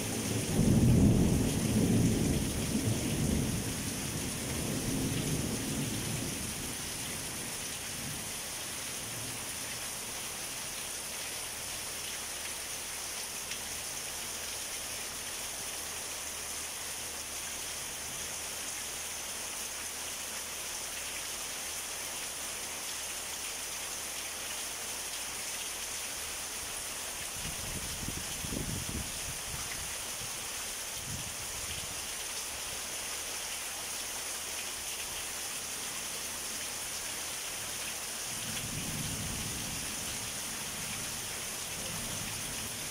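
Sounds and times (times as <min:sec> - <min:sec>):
heavy rain pouring: 0:00.0 - 0:42.9.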